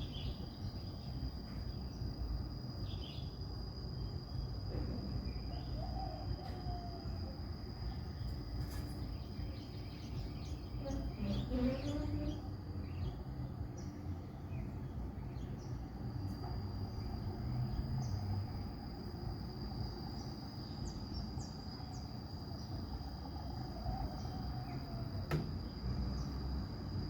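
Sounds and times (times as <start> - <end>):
high insect trill: 0.0 - 27.0.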